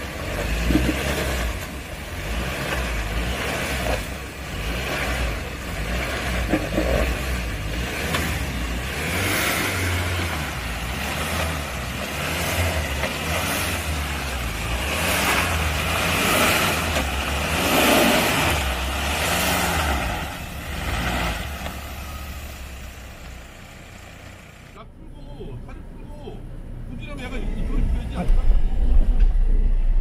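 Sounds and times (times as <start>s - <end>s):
off-road engine revving: 0.0s - 24.8s.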